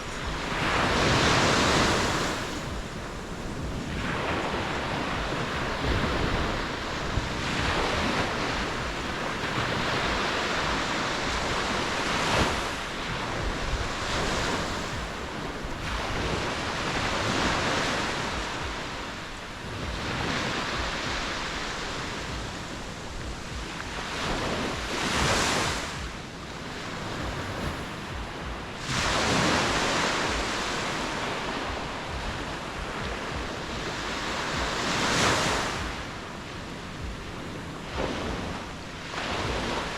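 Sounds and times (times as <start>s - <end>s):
ocean waves breaking on shore: 0.0s - 39.9s
wind noise on microphone: 0.0s - 39.9s.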